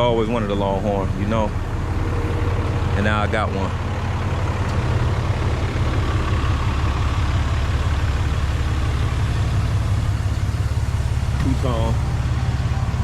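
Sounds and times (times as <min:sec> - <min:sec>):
truck engine exhaust rumble: 0:00.0 - 0:13.0.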